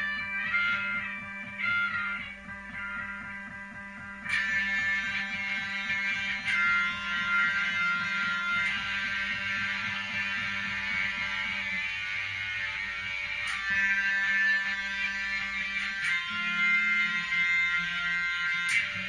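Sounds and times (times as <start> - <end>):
ringing guitar chords: 0.0 - 19.0
steady bass note: 0.0 - 19.0.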